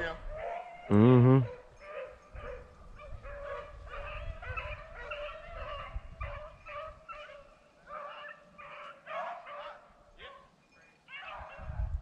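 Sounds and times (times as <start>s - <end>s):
dogs baying: 0.2s - 10.5s, 11.1s - 11.7s.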